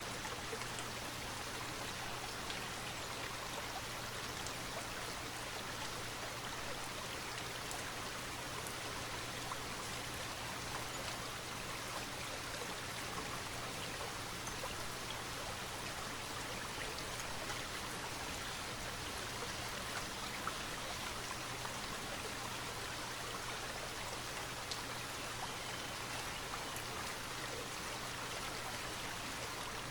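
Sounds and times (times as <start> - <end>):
light rain falling: 0.0 - 29.9
river water flowing over rocks: 0.0 - 29.9.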